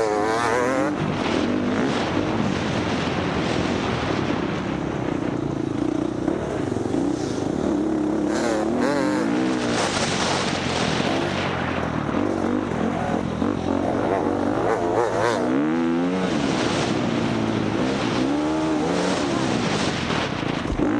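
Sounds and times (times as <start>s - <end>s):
constant rushing noise: 0.0s - 20.9s
dirt bike engine revving: 0.0s - 20.9s.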